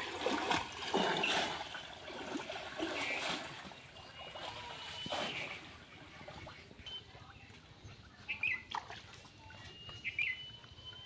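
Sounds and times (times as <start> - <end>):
water sloshing around wading legs: 0.0 - 11.0.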